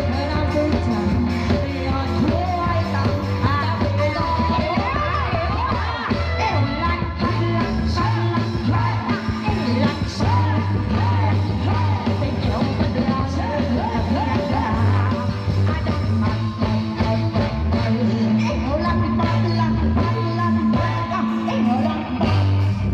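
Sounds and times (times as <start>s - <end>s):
heavy bass line: 0.0s - 22.9s
rock song with singing: 0.0s - 22.9s.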